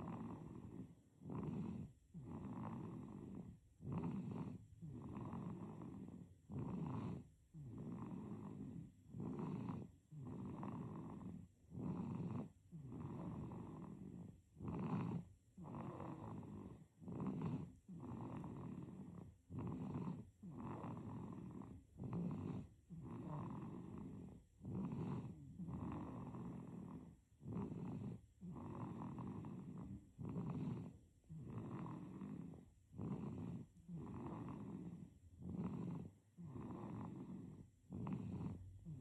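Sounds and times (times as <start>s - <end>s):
baby snoring: 0.0s - 39.0s.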